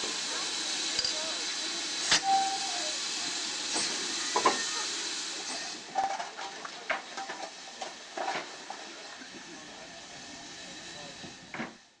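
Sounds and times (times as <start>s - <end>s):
steam hissing from locomotive: 0.0s - 6.2s, 6.8s - 12.0s.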